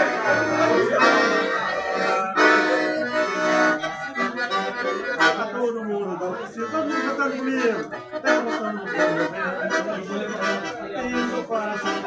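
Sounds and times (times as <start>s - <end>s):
accordion playing: 0.0s - 12.0s.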